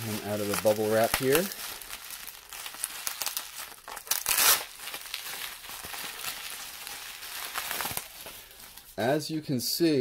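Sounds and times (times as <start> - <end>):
bubble wrap crinkling: 0.0 - 9.2.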